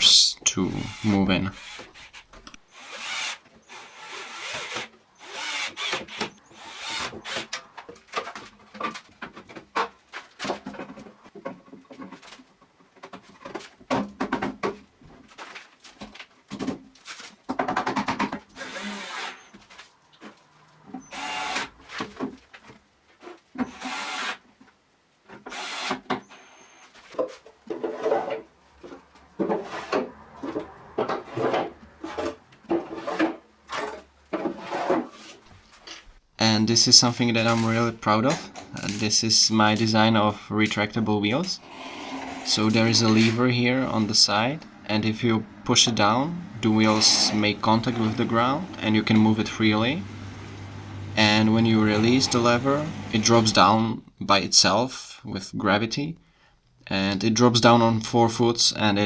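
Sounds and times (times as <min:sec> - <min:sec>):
wood scraping and knocking: 0:03.4 - 0:24.0, 0:24.6 - 0:36.1, 0:37.1 - 0:53.6.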